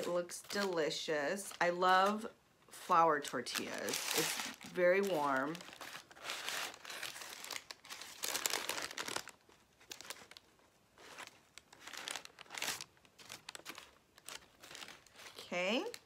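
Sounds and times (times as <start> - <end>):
paper wrapper crinkling: 0.0 - 2.3, 3.2 - 16.0.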